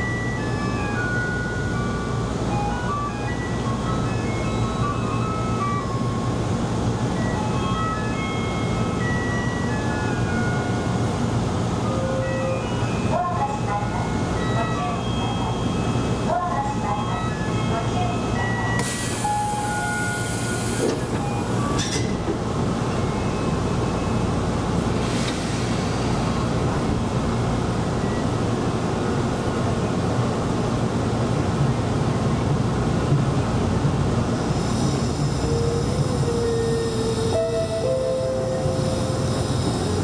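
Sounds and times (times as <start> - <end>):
electric train rumble: 0.0 - 40.0.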